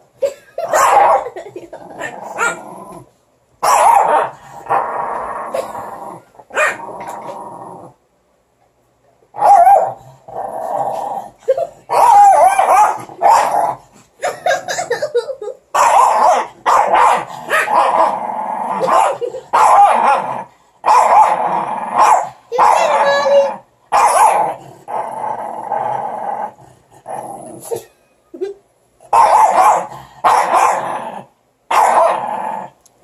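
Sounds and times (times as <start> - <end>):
small dogs growling and barking: 0.6 - 8.0, 9.3 - 27.9, 29.0 - 32.8.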